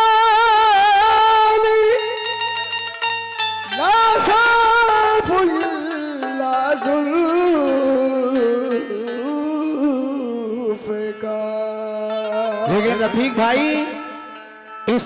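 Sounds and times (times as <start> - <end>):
person singing wordlessly: 0.0 - 2.1, 3.7 - 14.0
harmonium sustained notes: 0.0 - 15.0.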